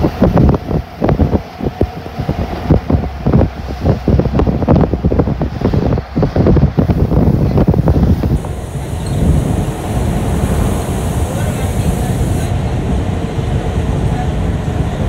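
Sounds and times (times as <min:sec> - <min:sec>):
low road rumble: 0:00.0 - 0:15.0
wind buffeting microphone: 0:00.0 - 0:15.0.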